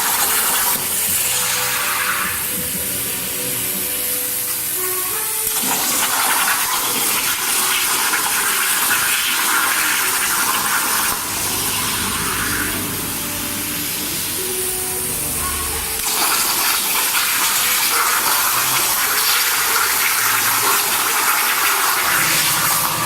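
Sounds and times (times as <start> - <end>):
plasma torch cutting metal: 0.0 - 23.0.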